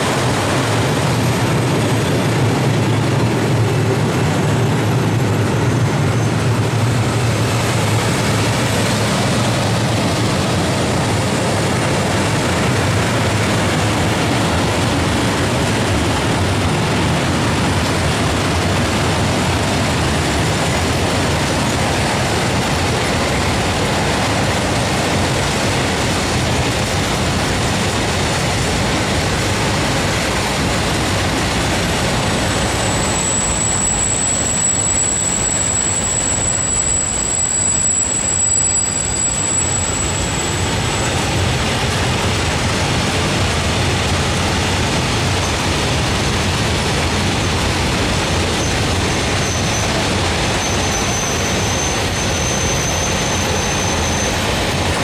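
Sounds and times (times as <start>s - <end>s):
train wheels on rail: 0.0s - 55.0s.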